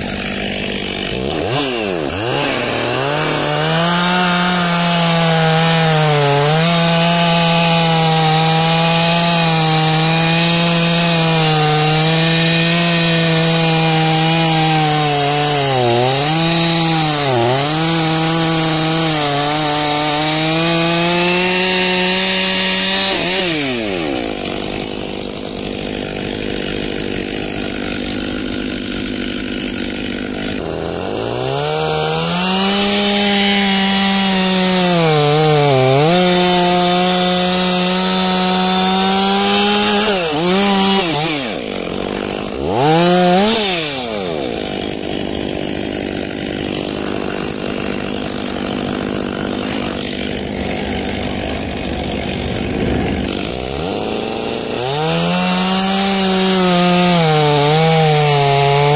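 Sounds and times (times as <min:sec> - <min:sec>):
chainsaw cutting through log: 0:00.0 - 0:58.9.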